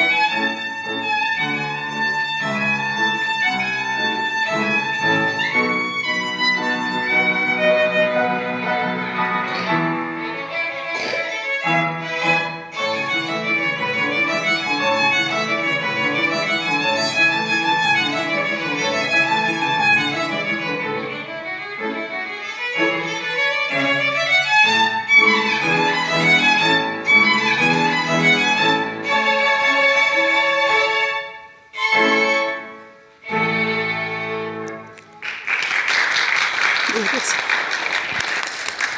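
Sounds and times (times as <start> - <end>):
violin melody: 0.0 - 35.2.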